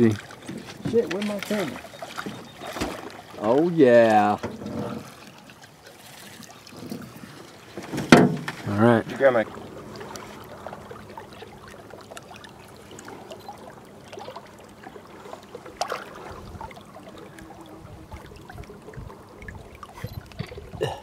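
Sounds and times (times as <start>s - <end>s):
river water trickling and lapping: 0.0s - 21.0s
small water splashes: 0.0s - 21.0s.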